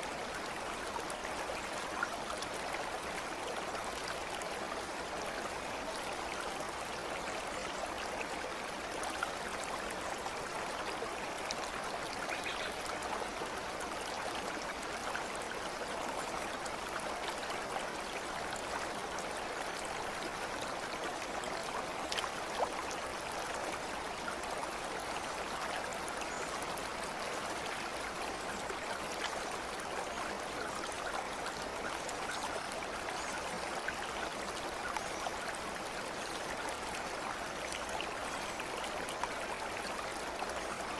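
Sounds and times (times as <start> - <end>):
babbling stream: 0.0 - 40.9.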